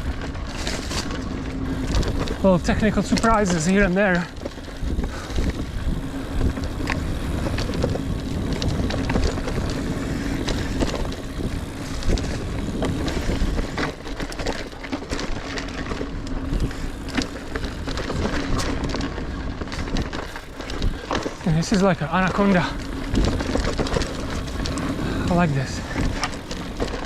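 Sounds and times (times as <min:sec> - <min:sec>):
bike clicks and rattles: 0:00.0 - 0:27.0
bike tyre rumble on dirt: 0:00.0 - 0:27.0.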